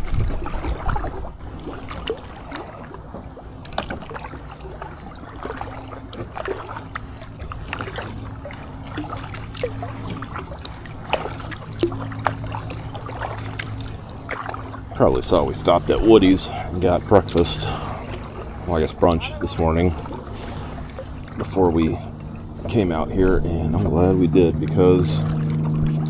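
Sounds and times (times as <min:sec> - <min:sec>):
kayak paddle strokes in water: 0:00.0 - 0:26.0
water dripping from paddle: 0:00.0 - 0:26.0.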